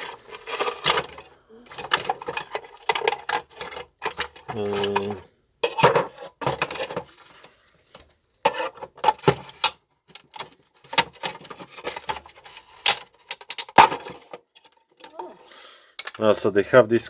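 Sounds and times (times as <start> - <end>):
hard plastic parts clicking: 0.0 - 7.1, 7.9 - 15.2.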